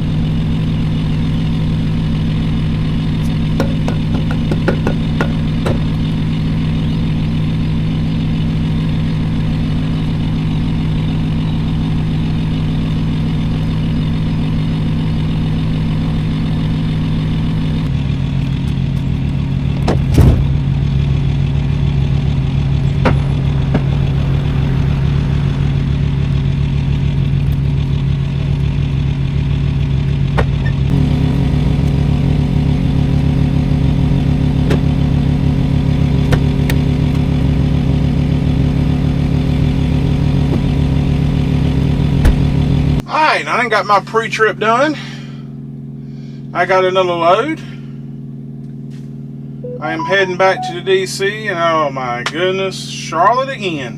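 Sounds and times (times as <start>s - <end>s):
truck diesel engine running: 0.0s - 43.0s, 44.2s - 49.6s.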